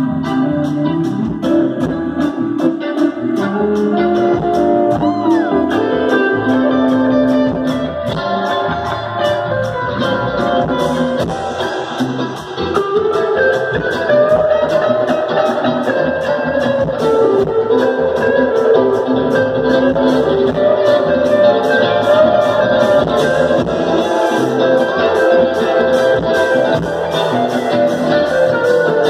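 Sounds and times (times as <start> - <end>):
electric guitars: 0.0 - 29.0
live rock band playing: 0.0 - 29.0.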